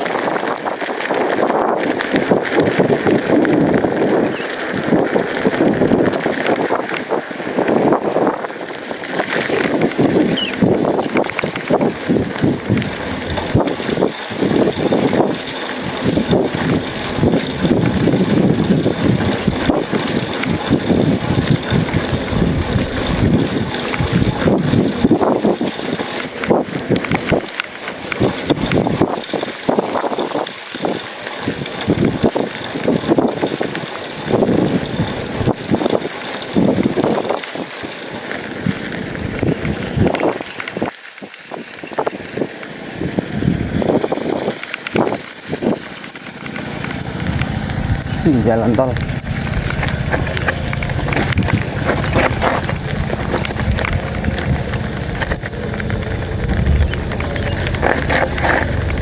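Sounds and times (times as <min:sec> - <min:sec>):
bike rattling over bumps: 0:00.0 - 0:59.0
bike tyres on gravel: 0:00.0 - 0:59.0
wind buffeting microphone: 0:00.0 - 0:59.0.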